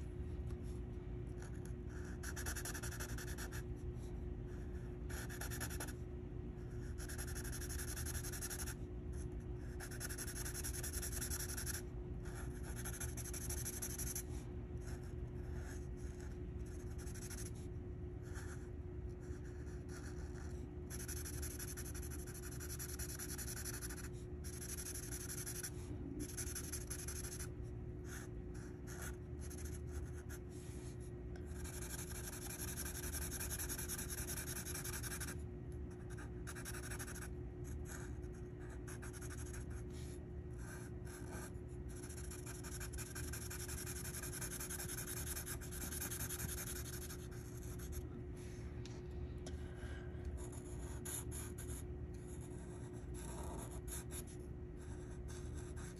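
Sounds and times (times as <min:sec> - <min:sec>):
faint steady hum: 0:00.0 - 0:55.9
marker scratching on paper: 0:01.4 - 0:03.6, 0:04.6 - 0:06.0, 0:06.8 - 0:08.8, 0:09.7 - 0:18.6, 0:19.2 - 0:35.4, 0:36.0 - 0:37.3, 0:37.9 - 0:48.0, 0:49.8 - 0:55.9.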